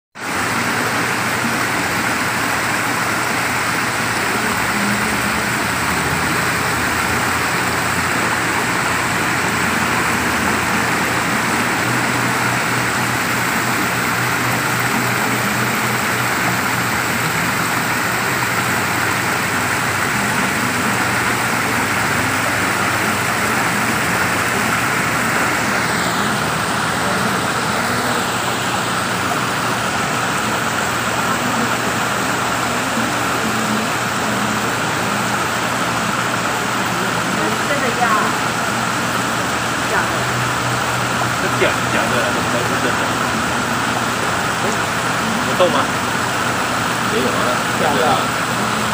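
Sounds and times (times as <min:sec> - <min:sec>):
stream rushing over rocks: 0:00.2 - 0:48.9.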